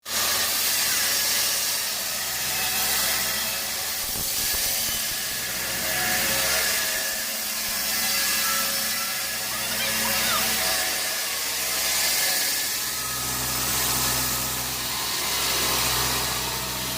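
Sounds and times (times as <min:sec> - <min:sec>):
sawmill machinery hissing: 0:00.1 - 0:16.9.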